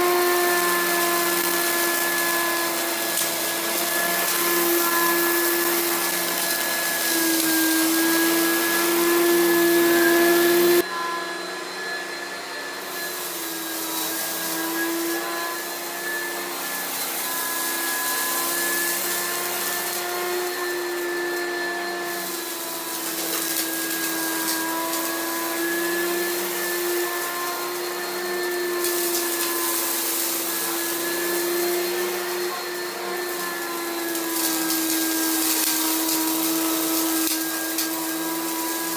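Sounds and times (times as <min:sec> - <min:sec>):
vacuum cleaner motor hum: 0:00.0 - 0:38.9.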